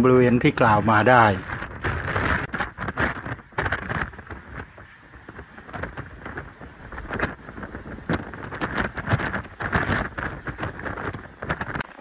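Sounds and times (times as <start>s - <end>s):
heavy rain: 0.0s - 12.0s
wind buffeting microphone: 0.0s - 12.0s
wind gusting: 0.0s - 12.0s.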